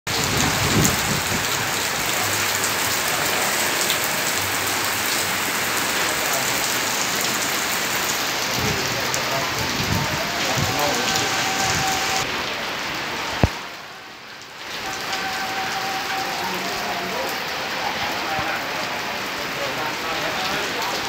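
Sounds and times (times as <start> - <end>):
rain hissing: 0.1 - 21.0.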